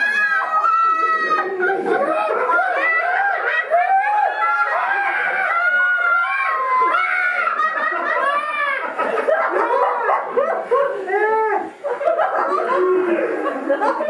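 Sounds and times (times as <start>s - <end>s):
people laughing and chattering: 0.0s - 14.0s.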